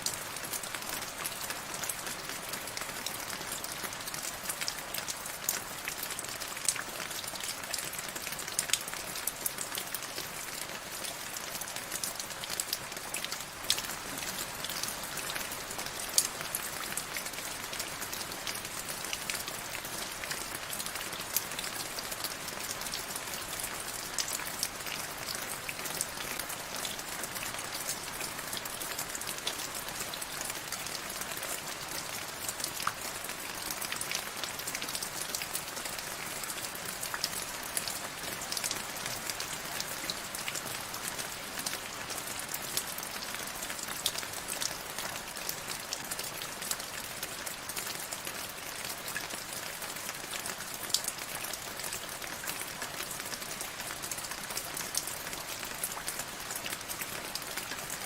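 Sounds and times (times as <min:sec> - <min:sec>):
rain pattering on hard surface: 0:00.0 - 0:58.0.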